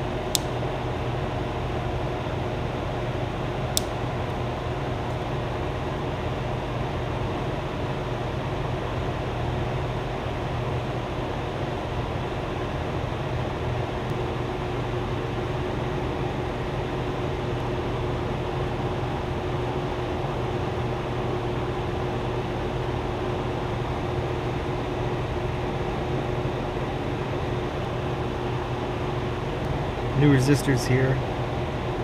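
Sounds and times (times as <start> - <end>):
machine hum with faint tone: 0.0 - 32.0.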